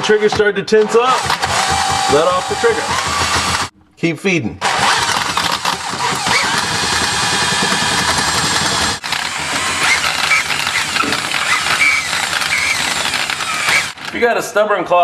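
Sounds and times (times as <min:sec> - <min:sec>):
cordless drill spinning: 0:01.1 - 0:03.7, 0:04.6 - 0:14.2.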